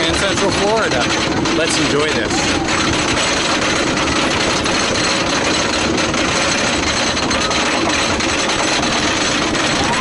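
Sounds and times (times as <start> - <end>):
lift chain clattering: 0.0 - 10.0.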